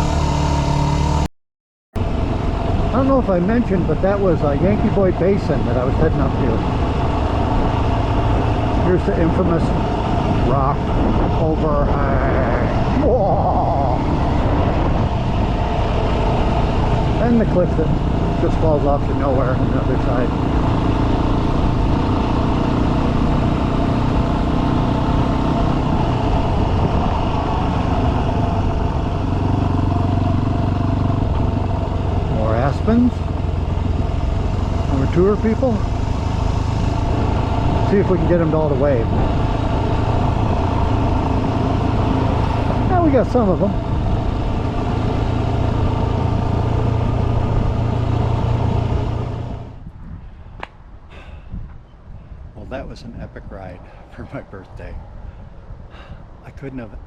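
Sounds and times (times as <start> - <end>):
dirt bike engine running: 2.0 - 49.7.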